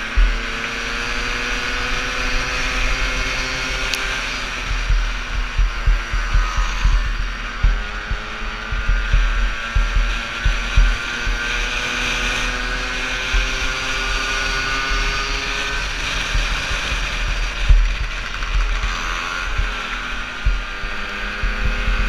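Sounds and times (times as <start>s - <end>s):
two-stroke engine running hard: 0.0s - 22.0s
wind buffeting microphone: 0.0s - 22.0s.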